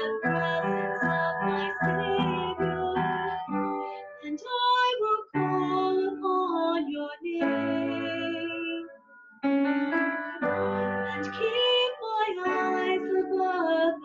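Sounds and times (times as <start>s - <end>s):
woman singing worship song: 0.0s - 3.6s, 4.2s - 8.9s, 10.6s - 14.0s
keyboard accompaniment: 0.0s - 14.0s.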